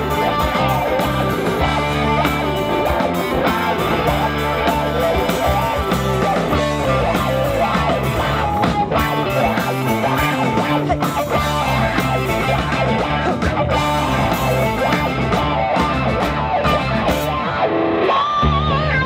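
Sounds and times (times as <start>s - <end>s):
drums: 0.0s - 19.0s
electric bass played with pick: 0.0s - 19.0s
electric guitar: 0.0s - 19.0s.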